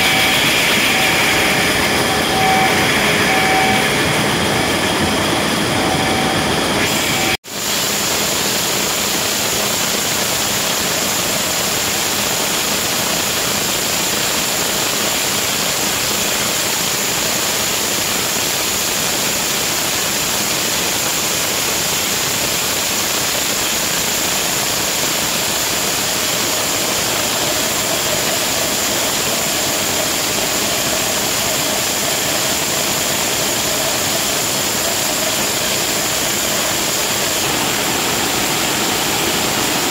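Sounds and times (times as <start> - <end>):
thin high whine: 0.0 - 12.6, 18.2 - 39.9
production-line machinery rushing: 0.0 - 39.9.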